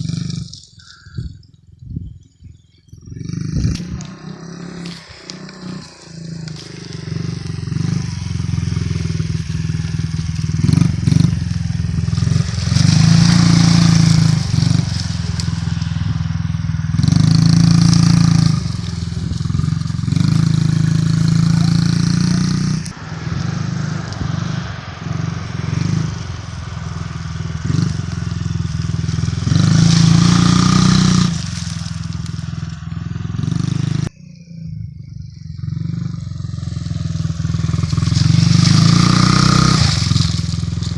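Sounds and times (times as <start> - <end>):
dirt bike engine revving: 0.0 - 1.1, 3.0 - 34.3, 35.4 - 40.9.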